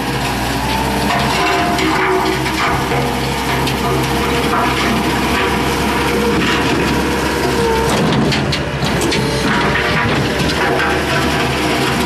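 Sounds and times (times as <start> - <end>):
diesel engine running: 0.0 - 12.0
rake drum churning soil and stones: 0.0 - 12.0.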